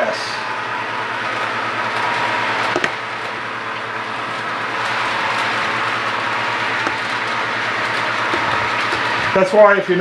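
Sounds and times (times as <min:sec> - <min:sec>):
model train motor whirring: 0:00.0 - 0:09.5.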